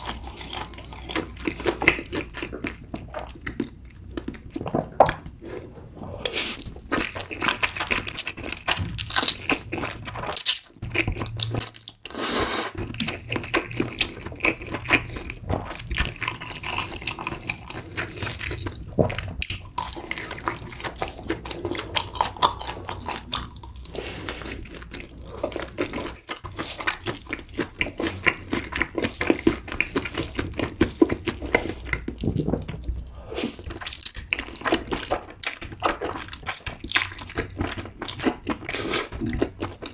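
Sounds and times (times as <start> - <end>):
wet chewing and slurping: 0.0 - 39.9.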